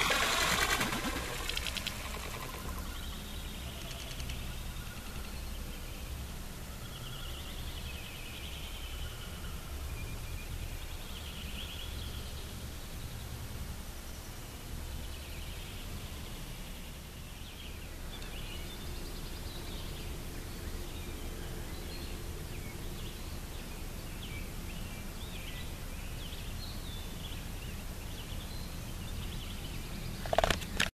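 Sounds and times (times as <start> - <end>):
low background rumble: 0.0 - 30.9.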